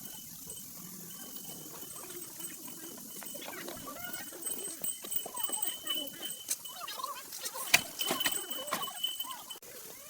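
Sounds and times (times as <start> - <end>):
faint squeaky calls: 0.0 - 10.0.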